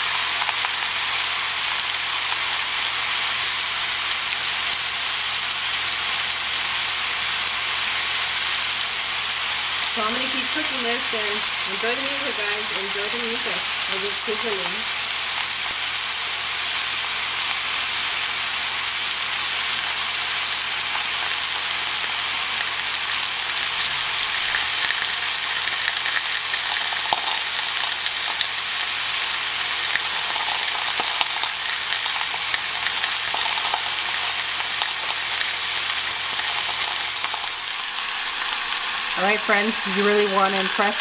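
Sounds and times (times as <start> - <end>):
steak sizzling in a grill pan: 0.0 - 41.0.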